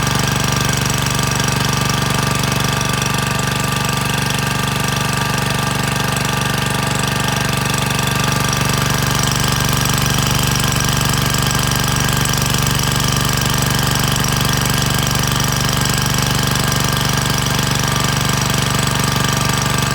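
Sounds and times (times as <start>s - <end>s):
engine-driven water pump running: 0.0s - 19.9s.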